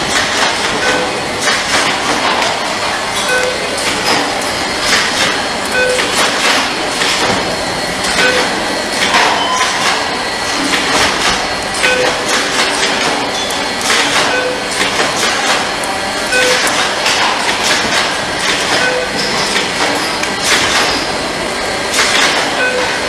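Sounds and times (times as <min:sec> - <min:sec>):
machine clatter and knocking: 0:00.0 - 0:21.2, 0:21.9 - 0:23.0.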